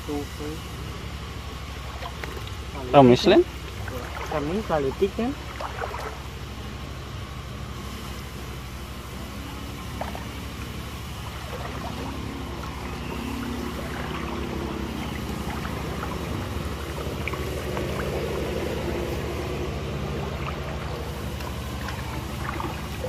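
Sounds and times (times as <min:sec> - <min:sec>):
water sloshing and trickling: 0:00.1 - 0:23.0.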